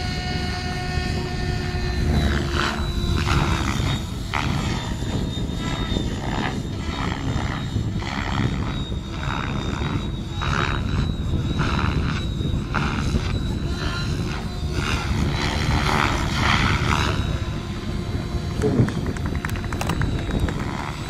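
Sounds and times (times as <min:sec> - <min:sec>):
helicopter rotor sound: 0:00.0 - 0:21.0
model helicopter whine: 0:00.0 - 0:21.0.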